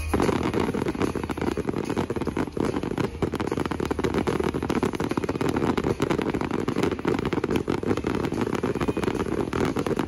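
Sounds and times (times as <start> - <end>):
fireworks crackling: 0.0 - 10.0
steady low rumble: 0.0 - 10.0.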